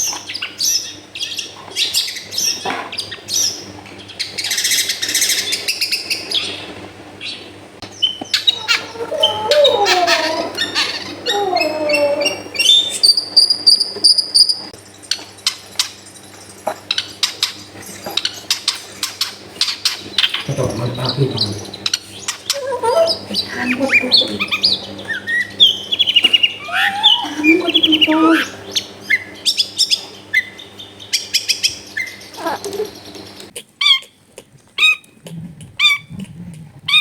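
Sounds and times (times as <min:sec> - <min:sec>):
bird singing: 0:00.0 - 0:34.1.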